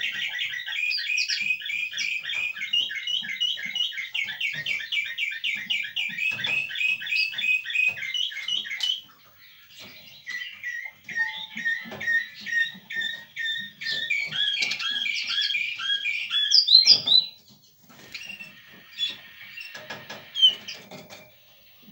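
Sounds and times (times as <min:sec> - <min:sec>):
siskin singing: 0:00.0 - 0:21.9.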